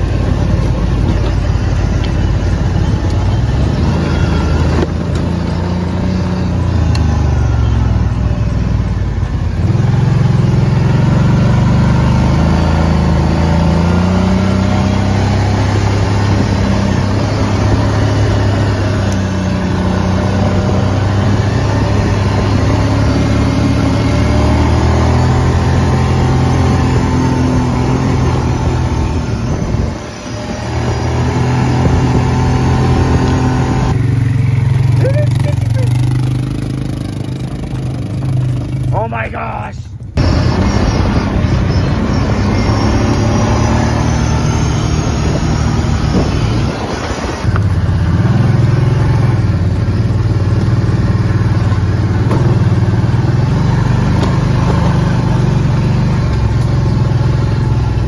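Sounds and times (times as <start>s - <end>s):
atv engine revving: 0.0s - 39.4s, 40.0s - 58.0s.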